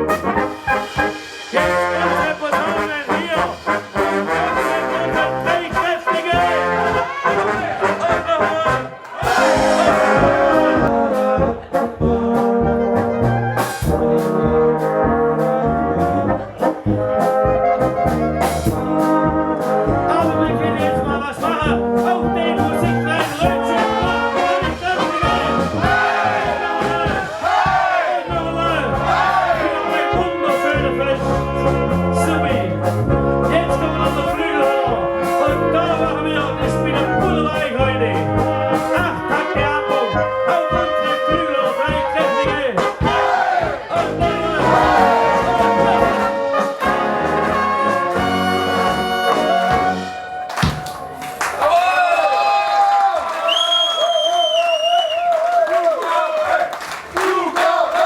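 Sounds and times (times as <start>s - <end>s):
brass band playing a polka: 0.0s - 51.7s, 56.5s - 58.0s.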